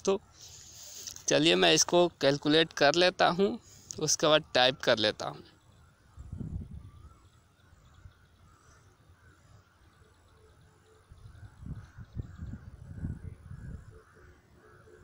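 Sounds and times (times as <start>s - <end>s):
distant birds calling: 0.0s - 15.0s.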